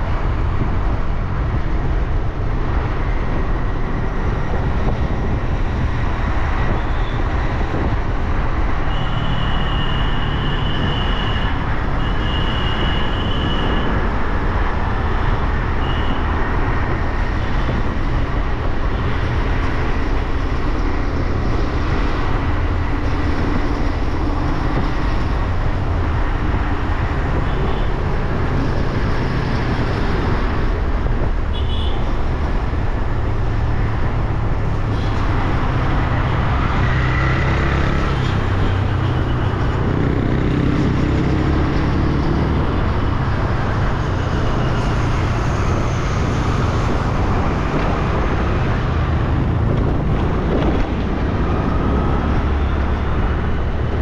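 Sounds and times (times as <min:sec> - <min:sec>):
city traffic: 0:00.0 - 0:54.0
wind rushing on microphone: 0:00.0 - 0:54.0.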